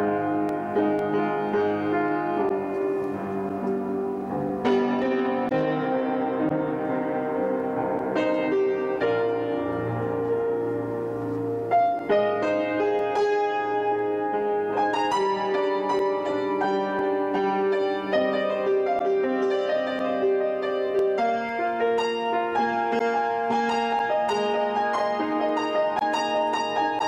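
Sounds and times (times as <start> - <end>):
piano notes and chords: 0.0 - 27.0.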